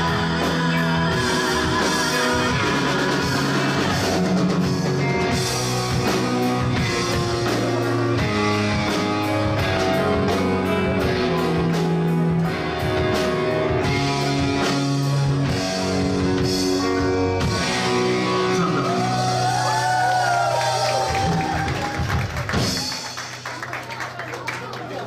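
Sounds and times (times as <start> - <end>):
bending electric guitar lead: 0.0 - 23.5
rock band playing ballad: 0.0 - 23.7.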